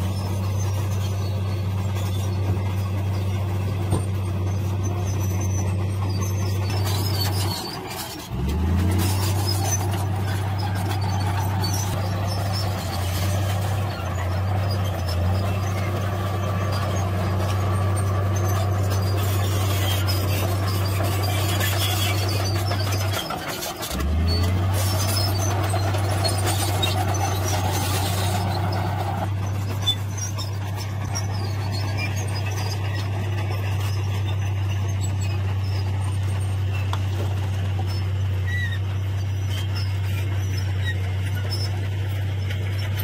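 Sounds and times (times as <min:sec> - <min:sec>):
bulldozer pushing soil: 0:00.0 - 0:43.0
dump truck raising its bed: 0:00.0 - 0:43.0.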